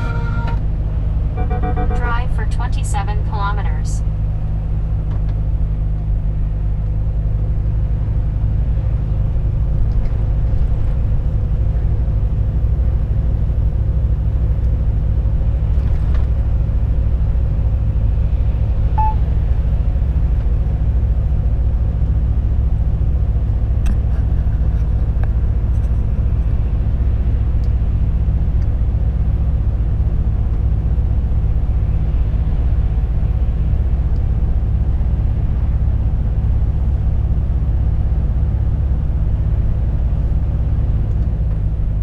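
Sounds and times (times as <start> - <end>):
tyre and road noise: 0.0 - 2.7, 3.3 - 42.0
diesel truck engine droning: 0.0 - 42.0.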